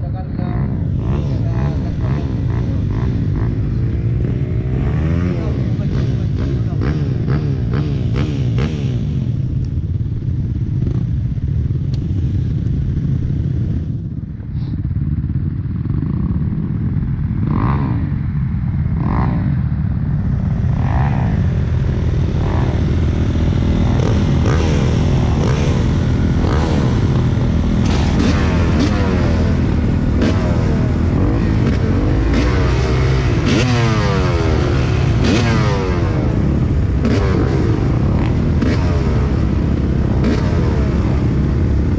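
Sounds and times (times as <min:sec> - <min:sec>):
dirt bikes revving and accelerating: 0:00.0 - 0:41.9.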